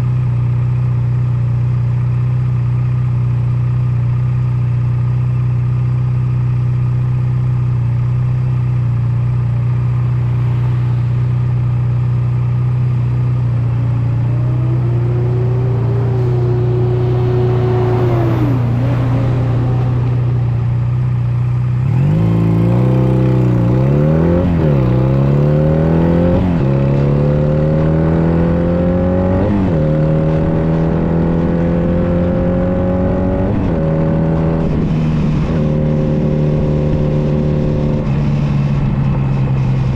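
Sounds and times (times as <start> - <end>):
motorcycle engine accelerating: 0.3 - 39.9.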